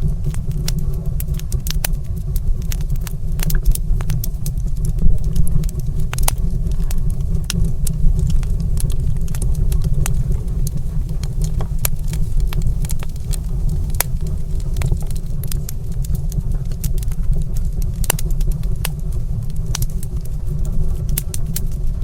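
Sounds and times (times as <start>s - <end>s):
wood fire crackling in fireplace: 0.0s - 22.0s.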